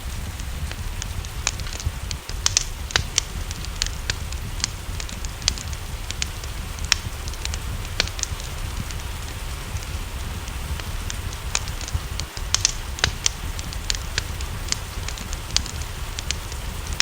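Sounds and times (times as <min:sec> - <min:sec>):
rain hissing: 0:00.0 - 0:17.0
wood fire crackling: 0:00.0 - 0:17.0.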